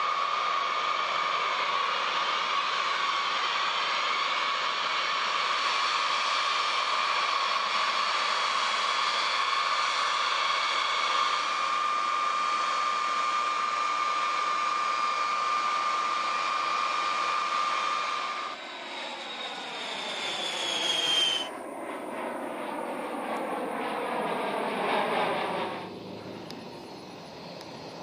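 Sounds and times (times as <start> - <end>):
jet aircraft rushing whine: 0.0 - 28.0
jet passing by: 0.1 - 28.0.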